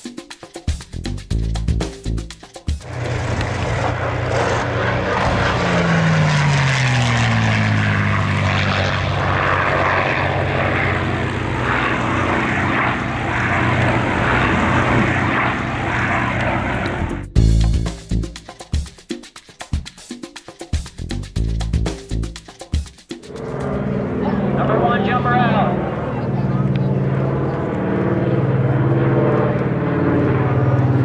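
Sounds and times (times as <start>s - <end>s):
propeller plane engine flying by: 1.4s - 18.4s, 23.2s - 31.0s.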